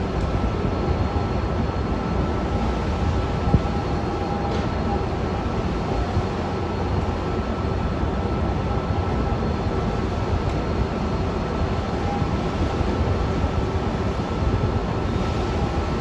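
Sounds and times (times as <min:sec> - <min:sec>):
jet aircraft rumble: 0:00.0 - 0:16.0.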